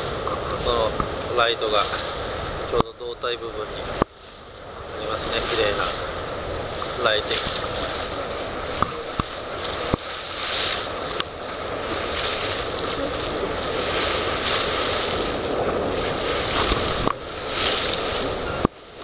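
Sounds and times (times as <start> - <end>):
water rushing past a boat: 0.0 - 19.0
wind rushing: 3.5 - 19.0.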